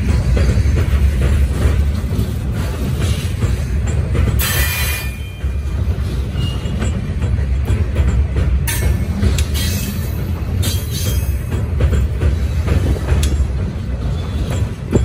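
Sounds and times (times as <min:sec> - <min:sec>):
clicks of train wheels: 0:00.0 - 0:15.0
train wheels rumbling on rails: 0:00.0 - 0:15.0.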